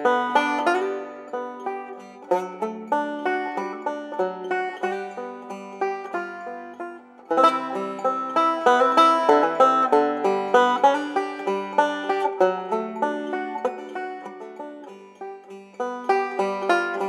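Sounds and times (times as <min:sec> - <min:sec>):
plucked string tune: 0:00.0 - 0:17.0.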